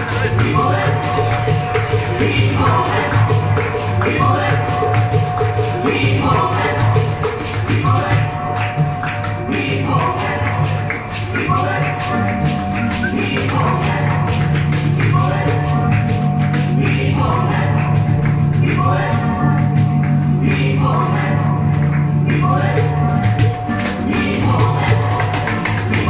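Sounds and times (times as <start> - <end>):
shaker-like percussion ticks: 0.0 - 26.0
synth bass notes: 0.0 - 26.0
synth melodic phrases: 0.0 - 26.0.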